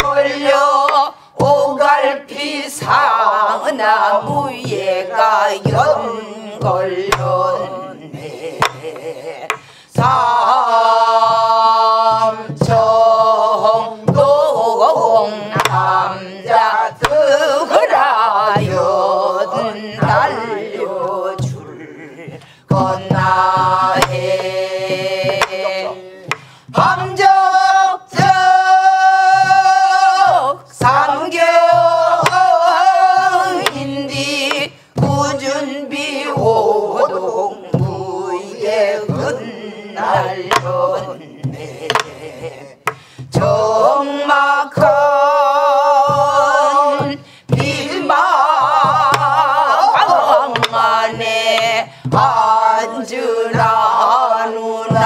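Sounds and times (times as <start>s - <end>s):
group singing folk song: 0.0s - 55.0s
barrel drum strokes: 2.8s - 55.0s.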